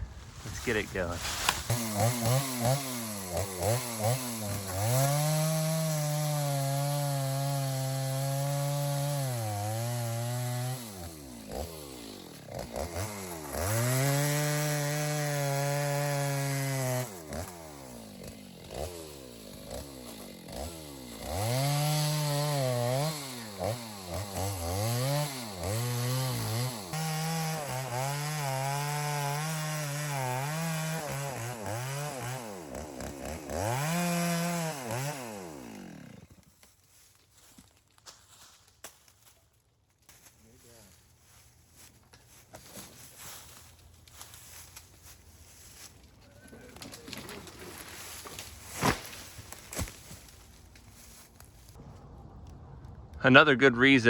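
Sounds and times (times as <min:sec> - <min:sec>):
chainsaw cutting wood: 0:00.6 - 0:36.8, 0:41.8 - 0:51.8.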